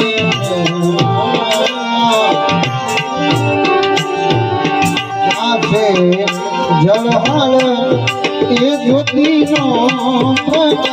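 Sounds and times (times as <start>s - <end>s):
instrumental melody: 0.0s - 10.9s
tabla rhythm: 0.0s - 10.9s.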